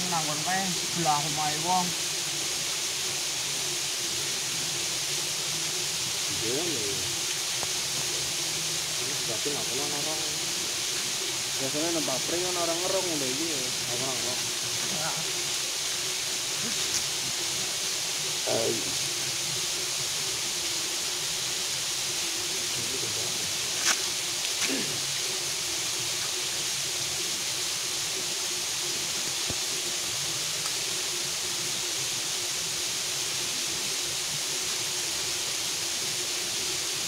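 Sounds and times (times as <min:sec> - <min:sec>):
hissing outdoor background noise: 0:00.0 - 0:37.0.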